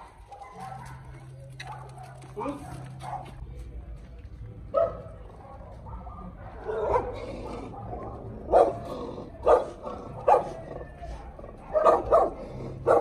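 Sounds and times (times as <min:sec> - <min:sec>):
dog barking: 0:00.0 - 0:03.4, 0:04.7 - 0:13.0.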